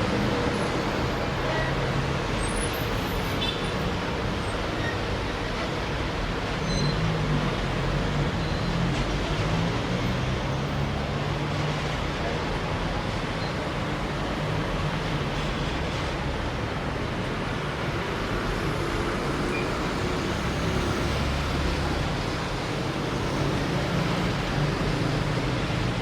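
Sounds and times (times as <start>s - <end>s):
diesel train engine drone: 0.0s - 26.0s.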